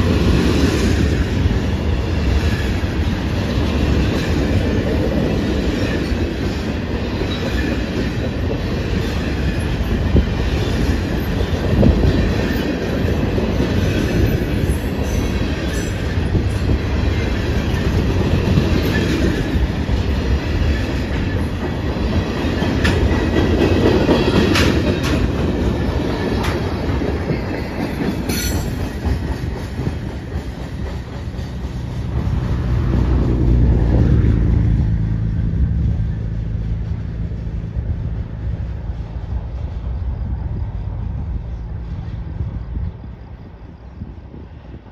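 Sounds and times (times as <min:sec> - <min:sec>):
train wheels on track: 0:00.0 - 0:44.9.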